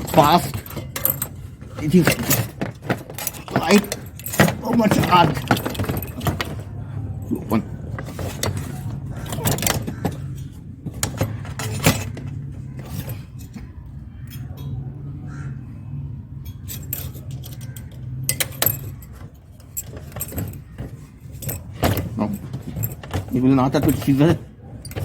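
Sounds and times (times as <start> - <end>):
metal parts clinking and scraping: 0.0 - 14.9, 16.3 - 25.0
steady low hum: 0.0 - 25.0.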